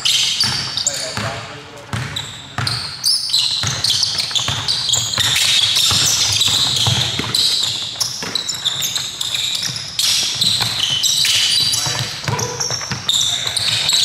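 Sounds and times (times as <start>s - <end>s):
sneaker squeaks: 0.0s - 14.0s
basketball bouncing: 0.1s - 14.0s.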